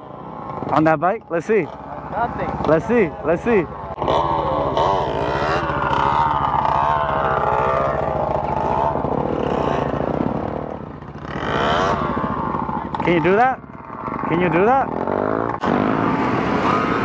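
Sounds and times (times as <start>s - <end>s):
off-road engine idling: 0.0s - 15.9s
off-road engine revving: 0.0s - 17.0s.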